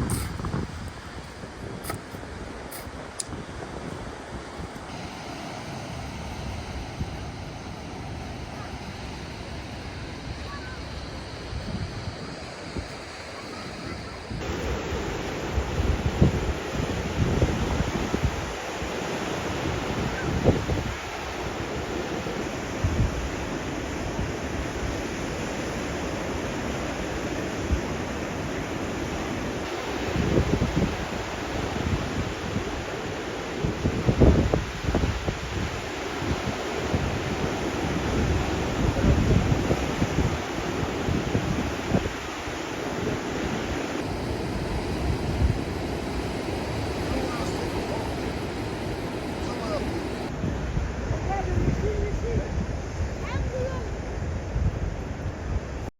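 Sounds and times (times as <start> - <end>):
sea surf: 0.0 - 55.9
wind: 0.0 - 55.9
wind gusts thumping on microphone: 0.0 - 55.9.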